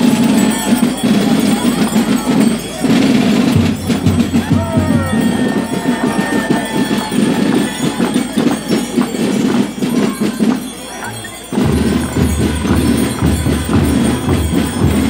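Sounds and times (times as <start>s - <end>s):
crowd noise: 0.0s - 15.0s
marching band music: 0.0s - 15.0s
steady drum beat: 0.0s - 15.0s.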